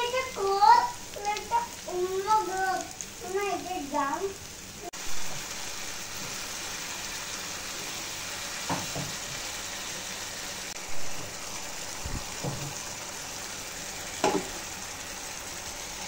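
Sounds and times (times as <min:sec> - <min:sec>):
spice paste sizzling in oil: 0:00.0 - 0:16.0.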